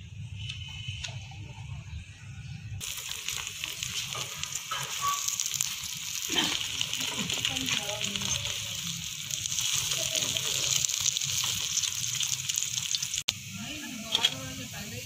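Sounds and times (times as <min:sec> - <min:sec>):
flatbread sizzling in oil: 0:02.8 - 0:15.0.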